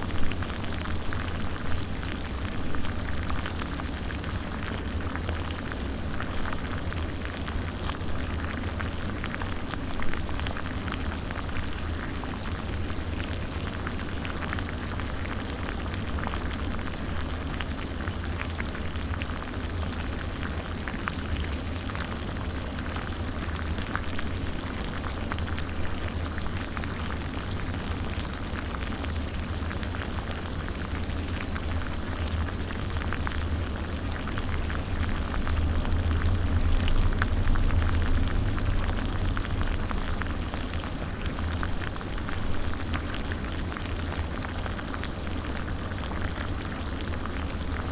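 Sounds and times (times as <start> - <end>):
water boiling in a pot: 0.0 - 47.9.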